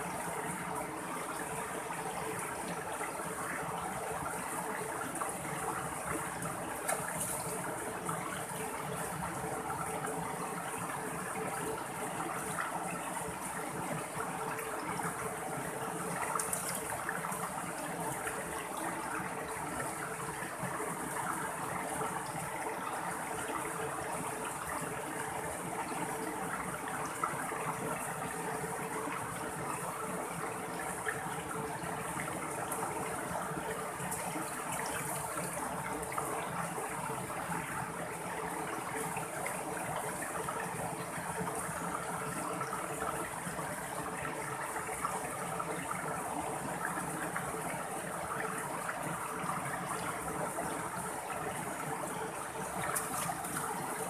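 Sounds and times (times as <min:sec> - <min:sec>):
stream flowing over rocks: 0:00.1 - 0:54.0.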